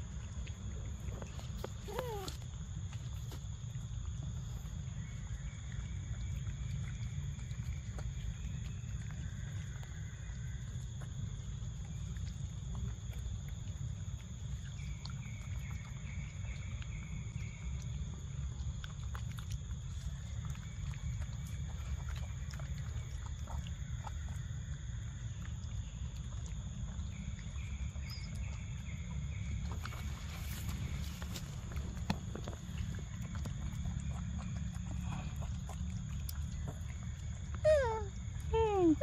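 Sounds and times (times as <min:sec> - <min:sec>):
monkeys chewing fruit: 0:00.0 - 0:39.0.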